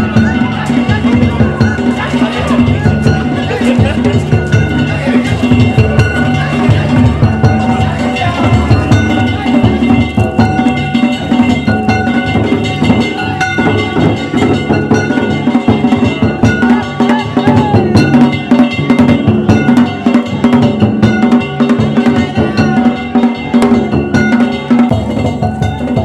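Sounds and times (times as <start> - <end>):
hand gongs clanging: 0.0 - 26.0
taiko drum beating: 0.0 - 26.0.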